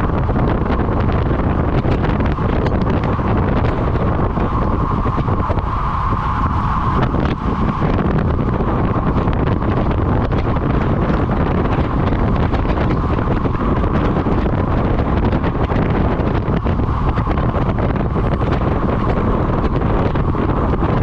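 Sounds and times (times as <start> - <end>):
constant mid-pitched hum: 0.0 - 21.0
wind buffeting microphone: 0.0 - 21.0.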